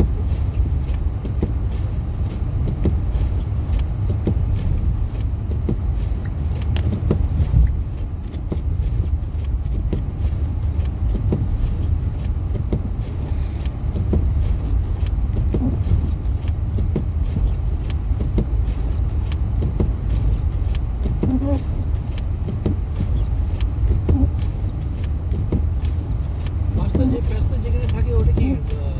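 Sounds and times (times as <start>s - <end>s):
truck rumble inside cab: 0.0s - 28.9s
faint ticks and knocks: 0.5s - 28.8s.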